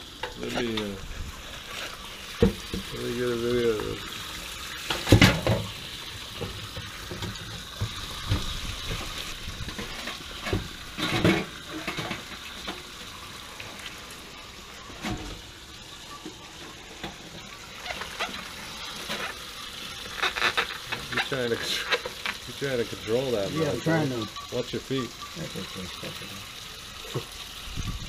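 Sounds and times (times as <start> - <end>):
water spraying and splashing: 0.0 - 28.0.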